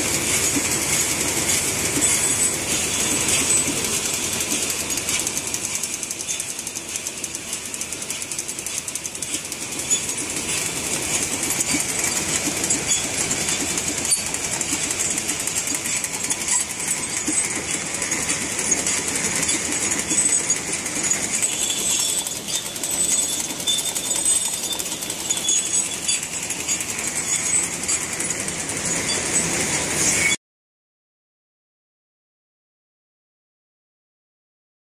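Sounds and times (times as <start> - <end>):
machine fast mechanical clatter: 0.0 - 30.4.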